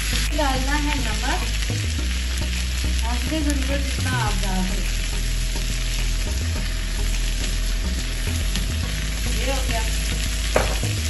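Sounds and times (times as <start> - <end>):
food sizzling in a grill pan: 0.0 - 11.0.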